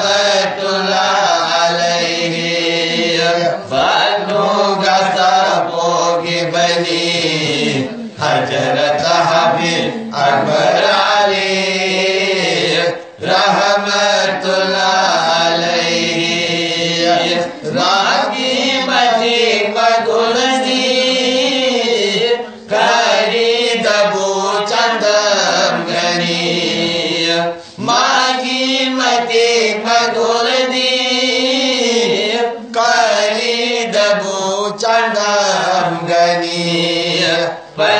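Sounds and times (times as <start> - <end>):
men chanting devotional song: 0.0 - 37.9.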